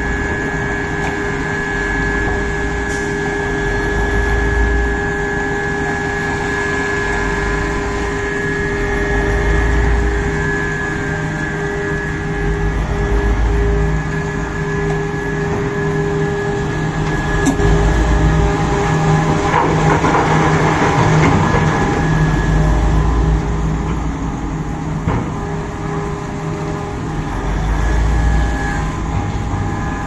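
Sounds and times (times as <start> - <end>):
mining excavator running: 0.0 - 30.0.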